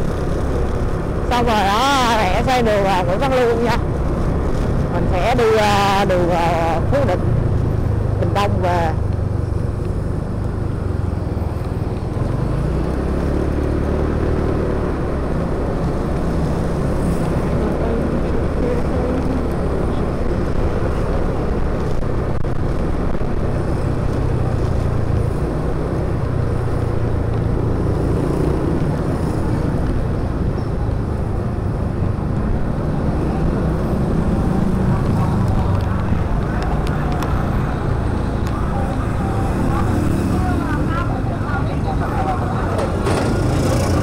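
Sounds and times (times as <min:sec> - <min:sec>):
other motorbikes humming: 0:00.0 - 0:44.0
road noise: 0:00.0 - 0:44.0.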